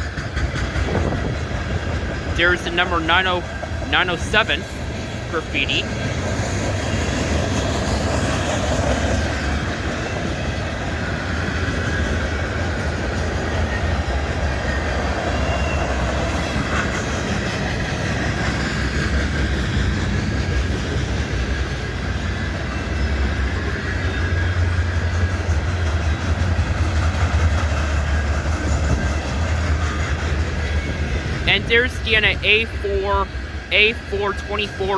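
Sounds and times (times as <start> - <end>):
steel wheels clattering on rails: 0.0 - 31.5
freight train cars rumbling past: 0.0 - 34.9.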